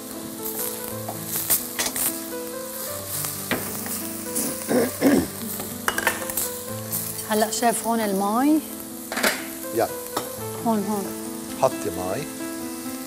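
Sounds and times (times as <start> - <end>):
faint background music: 0.0 - 13.0
food sizzling on stovetop: 0.0 - 13.0.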